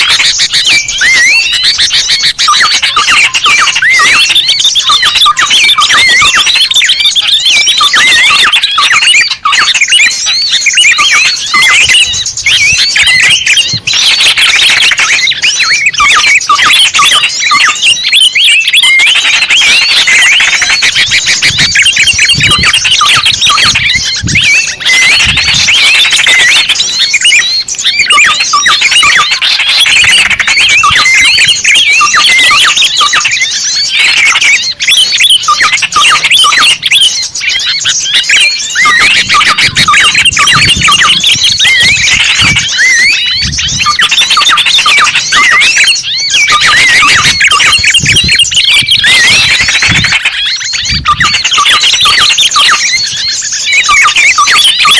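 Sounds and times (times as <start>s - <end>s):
many small birds chirping: 0.0s - 54.9s.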